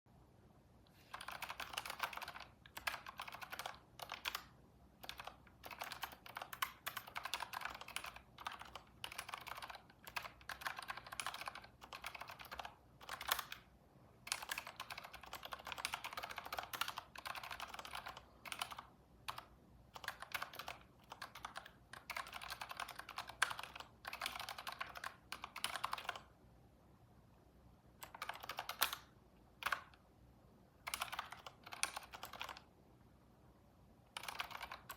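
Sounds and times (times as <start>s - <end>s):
keyboard typing: 0.9s - 26.4s, 28.0s - 30.0s, 30.8s - 32.7s, 34.1s - 34.9s.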